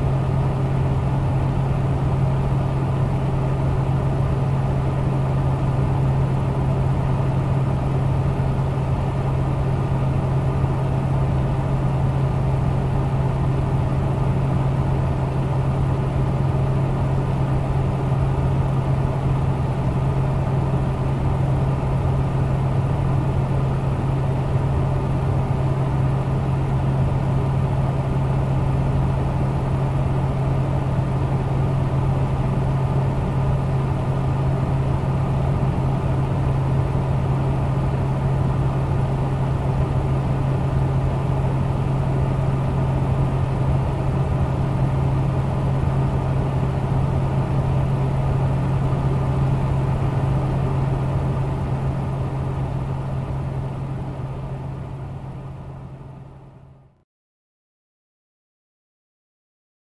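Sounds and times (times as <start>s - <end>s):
computer fan humming: 0.0s - 56.8s.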